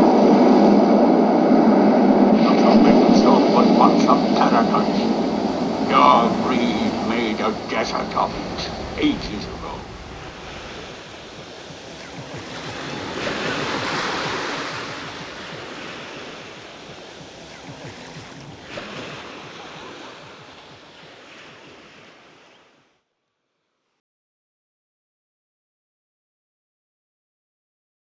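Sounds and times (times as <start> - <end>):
ocean surf washing: 0.0 - 22.8.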